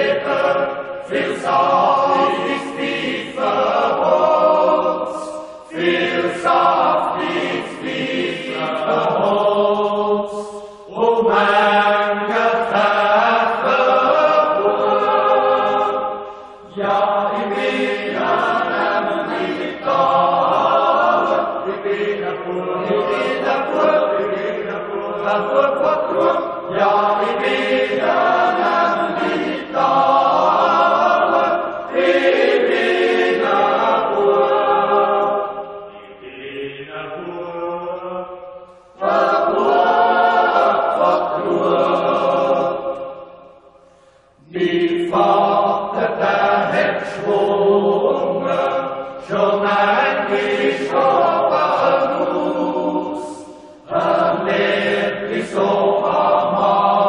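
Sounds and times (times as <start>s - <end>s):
voices singing chant-like phrases: 0.0s - 57.0s.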